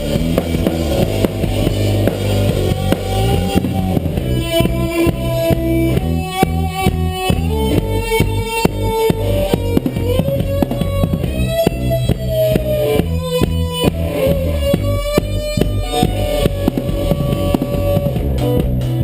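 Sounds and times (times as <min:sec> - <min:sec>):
bass: 0:00.0 - 0:19.0
steady drum beat: 0:00.0 - 0:19.0.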